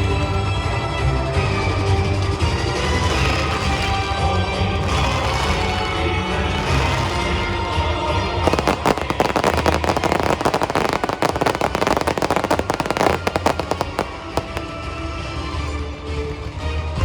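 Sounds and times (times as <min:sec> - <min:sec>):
fireworks crackling: 0:00.0 - 0:17.0
music playing: 0:00.0 - 0:17.0.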